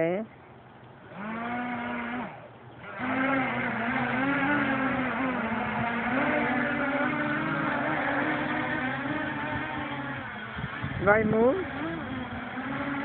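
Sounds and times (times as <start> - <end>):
drone motors whining: 1.0 - 13.0.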